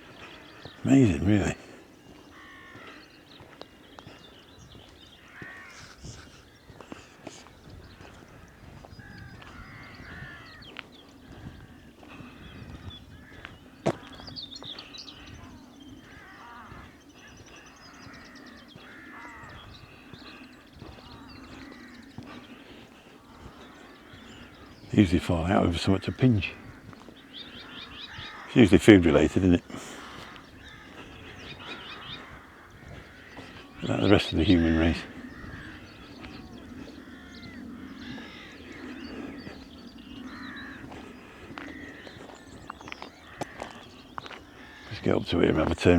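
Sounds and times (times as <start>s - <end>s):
crows cawing: 0.0s - 45.9s.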